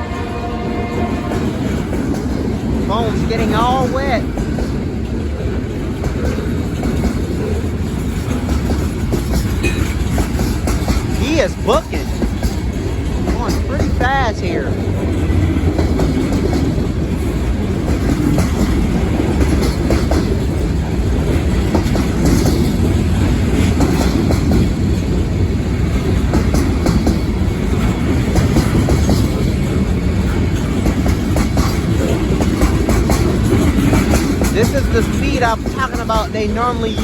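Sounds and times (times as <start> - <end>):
freight train rolling past: 0.0 - 37.0
wheels clacking over rail joints: 0.5 - 37.0.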